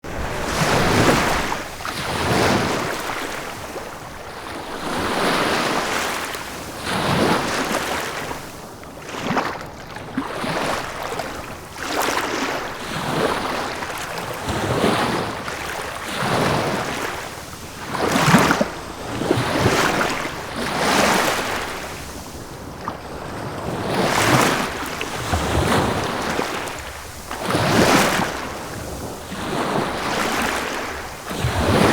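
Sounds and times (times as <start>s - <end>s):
sea waves breaking on shore: 0.0s - 31.9s.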